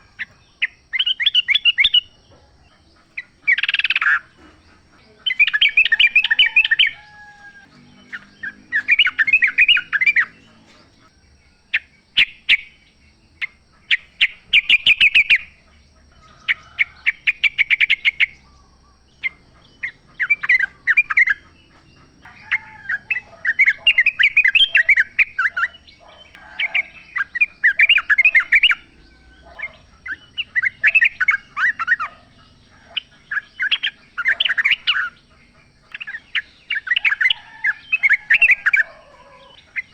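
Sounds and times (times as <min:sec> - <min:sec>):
bulbul singing chattering phrases: 0:00.0 - 0:39.9.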